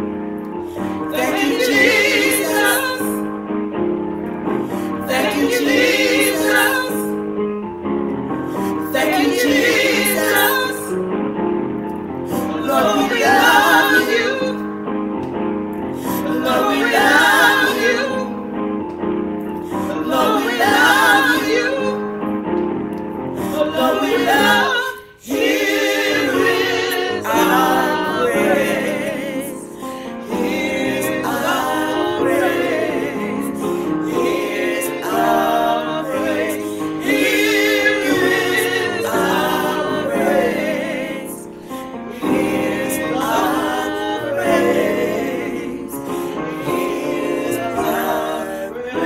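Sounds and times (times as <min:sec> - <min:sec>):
women singing gospel in harmony: 0:00.9 - 0:03.3, 0:04.7 - 0:07.2, 0:08.6 - 0:11.0, 0:12.3 - 0:14.7, 0:16.0 - 0:18.4, 0:19.6 - 0:22.2, 0:23.4 - 0:49.0.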